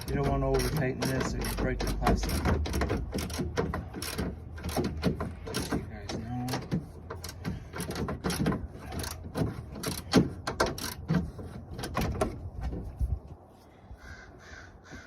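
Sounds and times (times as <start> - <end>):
tools knocking against metal: 0.0 - 12.4
hand ratchet clicking: 0.0 - 12.7.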